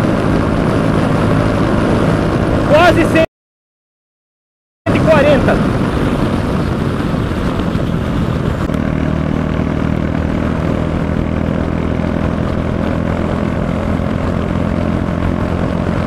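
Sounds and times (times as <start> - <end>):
motorcycle engine running hard: 0.0 - 3.2, 4.9 - 16.0
wind rush on microphone: 0.0 - 3.3, 4.9 - 16.0.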